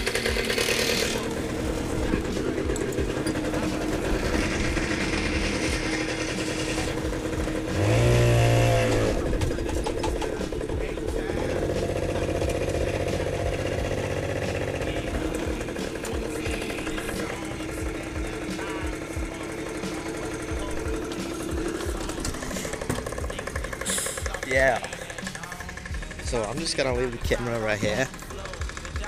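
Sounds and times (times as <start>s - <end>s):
go-kart engine running: 0.0s - 29.0s.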